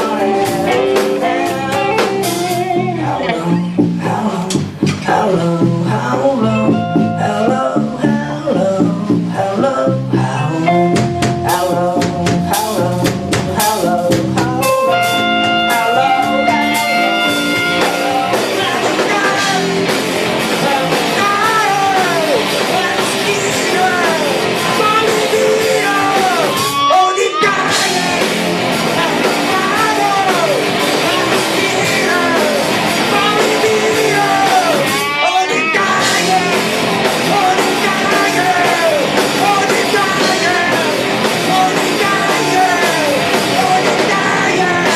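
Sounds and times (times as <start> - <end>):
drum kit: 0.0 - 44.9
electric guitar: 0.0 - 44.9
person singing: 0.0 - 44.9.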